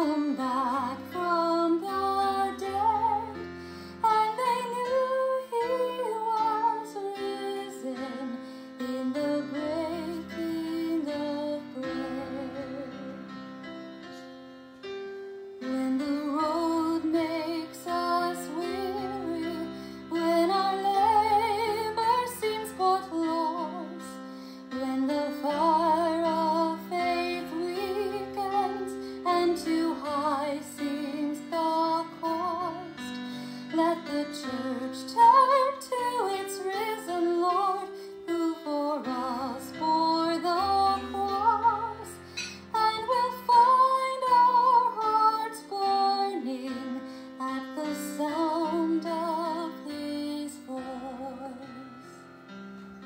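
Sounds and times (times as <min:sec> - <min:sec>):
woman singing a hymn with vibrato: 0:00.0 - 0:13.2, 0:15.6 - 0:51.9
instrumental accompaniment: 0:00.0 - 0:47.2.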